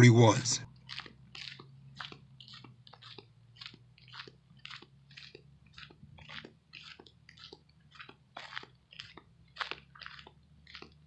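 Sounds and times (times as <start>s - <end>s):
footsteps crunching on gravel: 0.0s - 11.0s
low steady hum: 0.0s - 11.0s.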